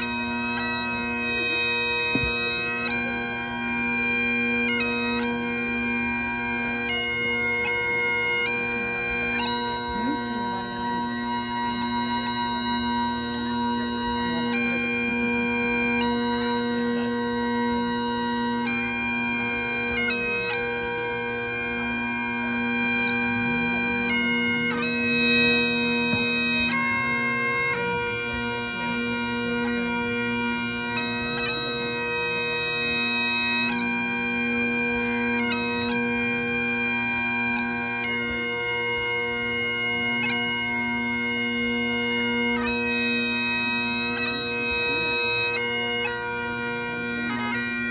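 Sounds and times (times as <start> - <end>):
bagpipes playing slow tune: 0.0 - 47.9.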